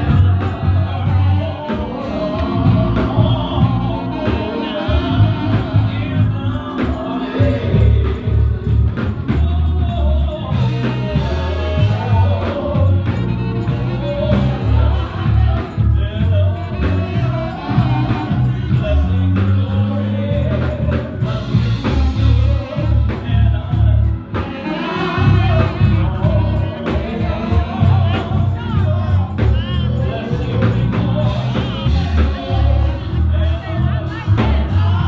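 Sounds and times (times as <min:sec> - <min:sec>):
band with strong bass line: 0:00.0 - 0:35.0
drum and tambourine beat: 0:00.0 - 0:35.0
gospel singing voices: 0:00.0 - 0:35.0.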